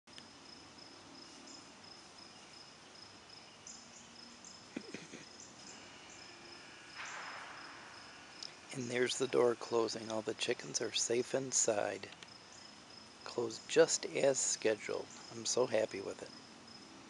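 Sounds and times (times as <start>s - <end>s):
crickets chirping: 0.1s - 17.0s.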